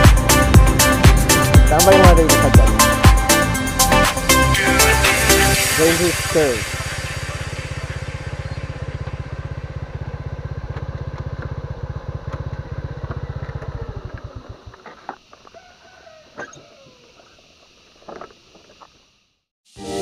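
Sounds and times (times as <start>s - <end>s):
motorcycle engine throbbing: 0.0s - 19.4s.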